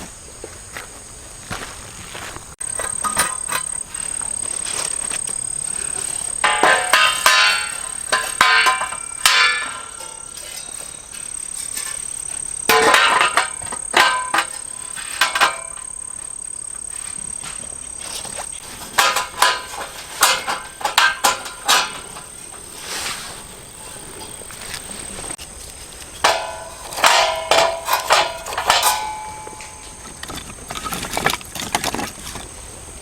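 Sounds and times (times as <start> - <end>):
high insect trill: 0.0 - 33.0.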